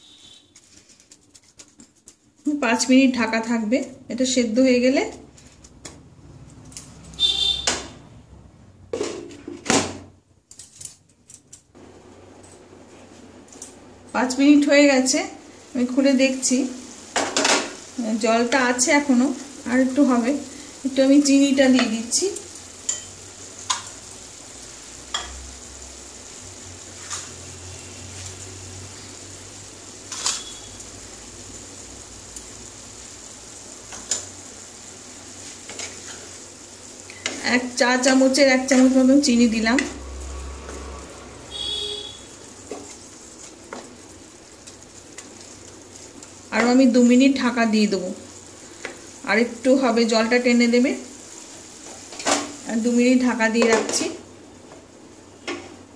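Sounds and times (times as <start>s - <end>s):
spinach sizzling in a wok: 0.0s - 8.1s, 11.7s - 55.9s.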